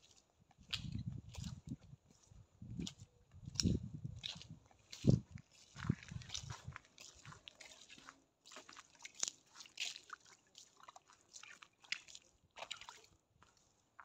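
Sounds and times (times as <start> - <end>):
footsteps on wet path: 0.0 - 14.0.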